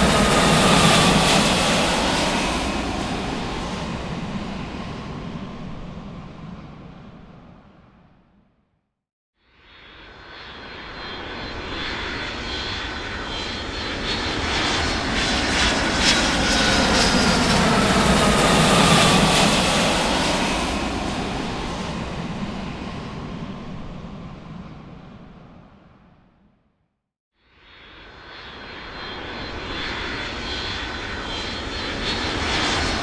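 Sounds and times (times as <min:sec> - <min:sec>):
aircraft engines passing: 0:00.0 - 0:08.7, 0:09.7 - 0:26.8, 0:27.7 - 0:33.0.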